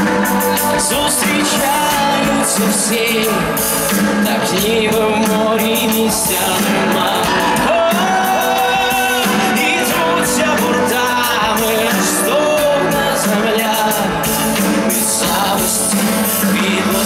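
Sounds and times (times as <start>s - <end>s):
man singing: 0.0s - 17.0s
pop-rock band playing live: 0.0s - 17.0s.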